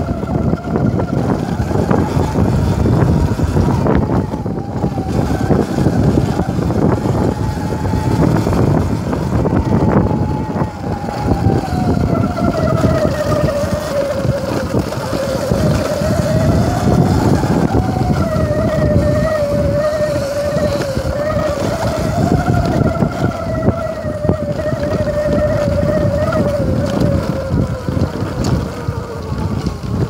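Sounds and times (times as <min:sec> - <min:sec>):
bicycle rattling: 0:00.0 - 0:30.0
bicycle tyres on dirt: 0:00.0 - 0:30.0
steady whine: 0:00.0 - 0:30.0
wind noise on microphone: 0:00.0 - 0:30.0.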